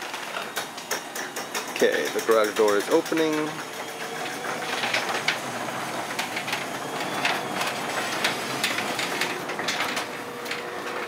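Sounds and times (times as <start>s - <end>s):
garage door opener running: 0.0s - 11.0s
garage door rattling: 1.2s - 11.0s.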